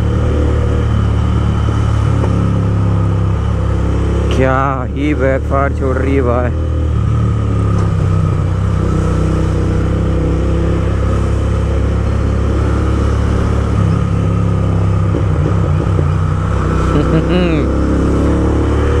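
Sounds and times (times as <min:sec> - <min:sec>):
motorcycle engine with loud exhaust: 0:00.0 - 0:19.0.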